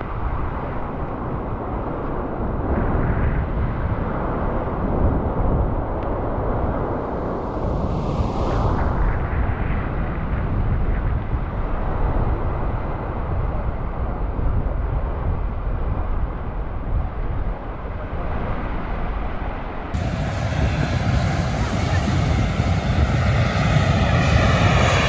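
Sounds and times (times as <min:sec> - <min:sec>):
jet airliner roaring overhead: 0:00.0 - 0:25.0.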